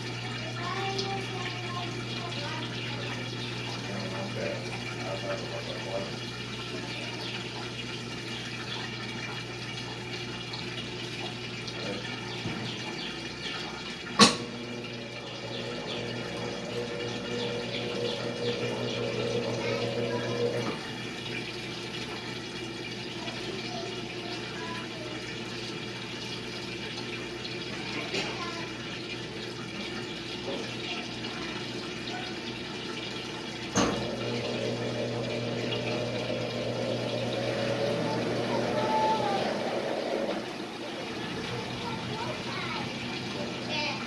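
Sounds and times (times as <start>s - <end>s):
washing machine running: 0.0s - 44.0s
water rushing: 0.0s - 44.0s.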